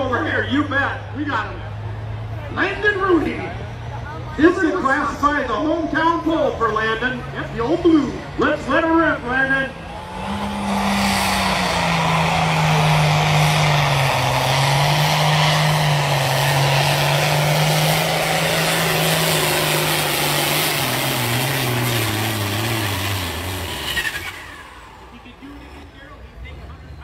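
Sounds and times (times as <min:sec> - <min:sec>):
tractor engine running flat out: 0:00.0 - 0:27.0.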